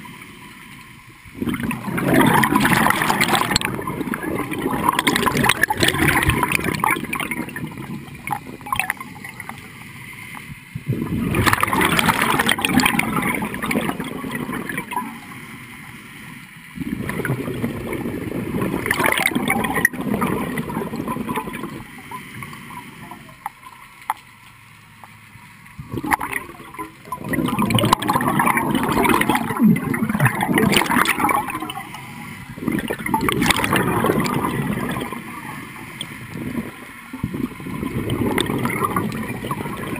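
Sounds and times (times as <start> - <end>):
gurgling exhaled bubbles: 1.2 - 16.0, 16.7 - 23.7, 25.8 - 39.9.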